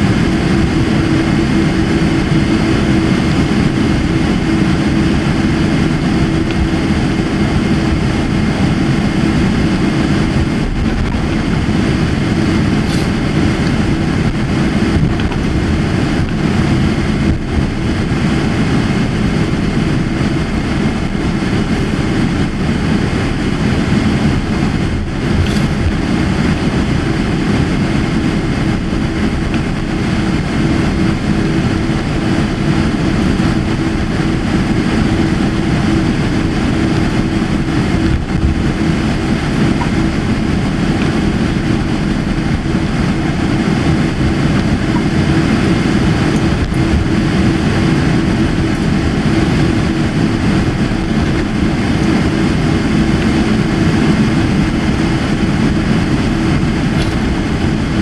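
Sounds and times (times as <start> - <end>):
jet engine and airflow rush: 0.0 - 58.0
steady low hum: 0.0 - 58.0.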